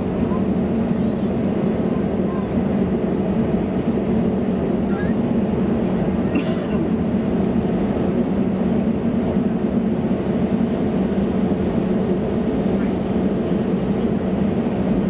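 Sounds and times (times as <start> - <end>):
airplane cabin hum: 0.0 - 15.0.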